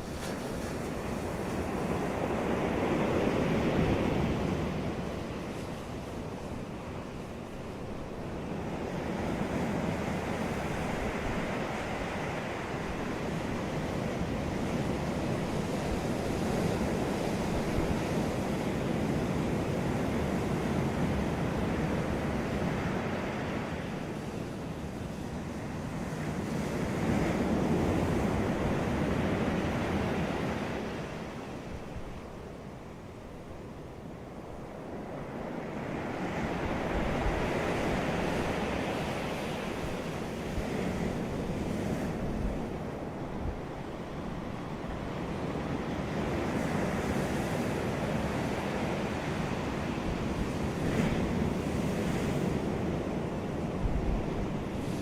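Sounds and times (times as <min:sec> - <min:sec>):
ocean waves breaking on beach: 0:00.0 - 0:55.0
wind noise on microphone: 0:00.0 - 0:55.0.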